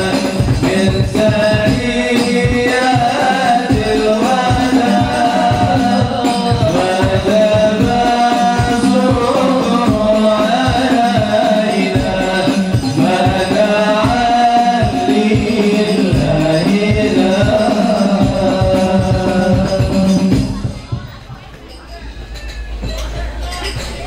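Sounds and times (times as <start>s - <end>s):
person singing long melodic notes: 0.0s - 20.9s
frame drums beating: 0.0s - 24.0s.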